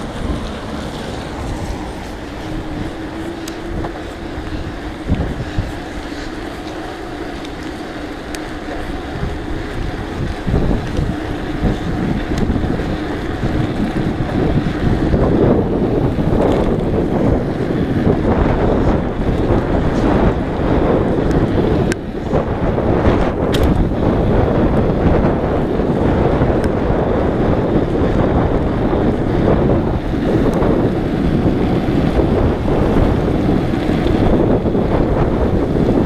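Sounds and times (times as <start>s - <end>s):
rushing noise from moving bike: 0.0s - 36.0s
wind buffeting microphone: 0.0s - 36.0s.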